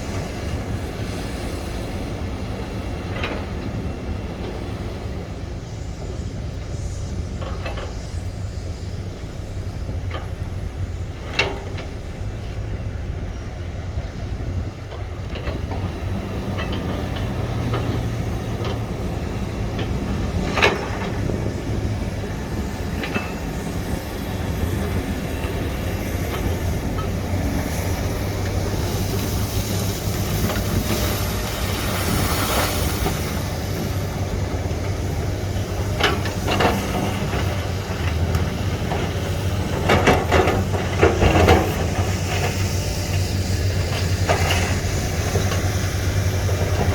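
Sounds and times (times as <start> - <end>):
hiss: 0.0 - 12.5, 15.8 - 46.9
excavator diesel engine rumbling: 0.0 - 46.9.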